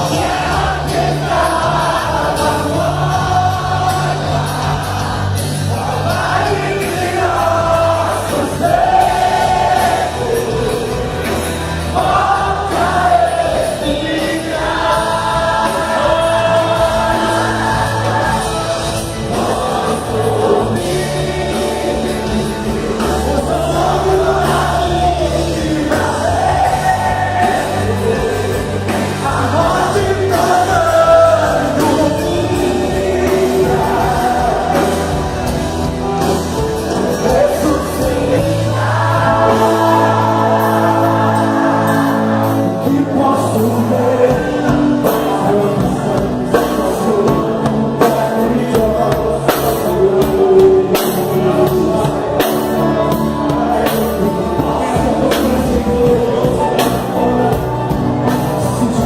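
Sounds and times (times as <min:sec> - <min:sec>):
band playing: 0:00.0 - 0:59.0
gospel choir singing: 0:00.0 - 0:59.0.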